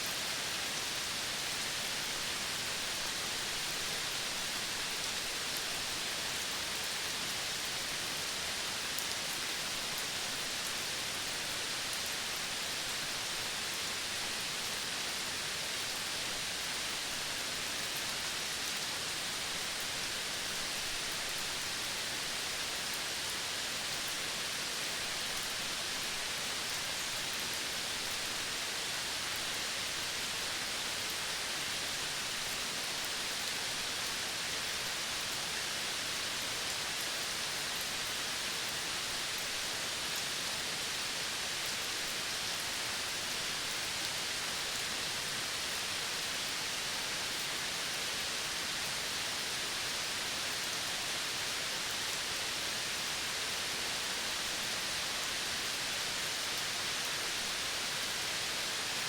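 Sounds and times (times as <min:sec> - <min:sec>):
outdoor nature ambience hiss: 0:00.0 - 0:59.0.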